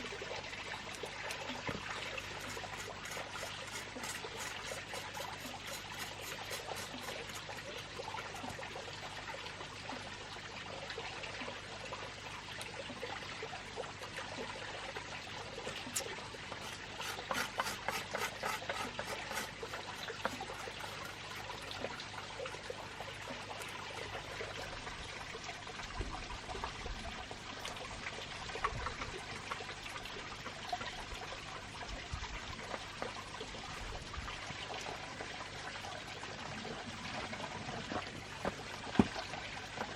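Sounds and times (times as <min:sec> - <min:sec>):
sharp ticks and splashes: 0:00.0 - 0:39.9
water trickling: 0:00.0 - 0:39.9.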